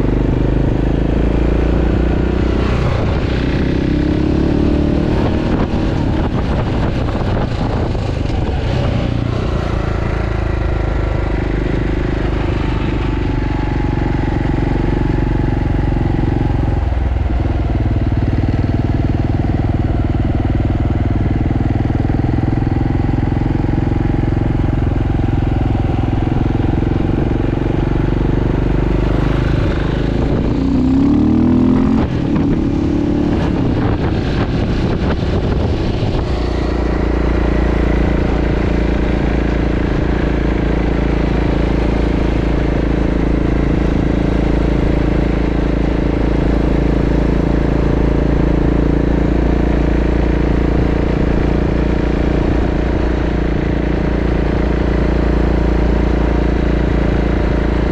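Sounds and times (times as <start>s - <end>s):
vehicle engine and road noise: 0.0s - 57.9s.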